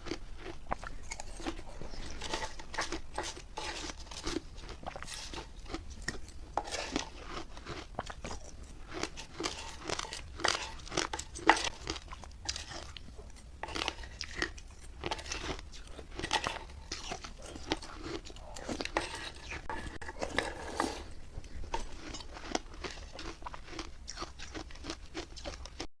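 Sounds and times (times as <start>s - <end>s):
crunchy chewing of ice: 0.0s - 25.9s.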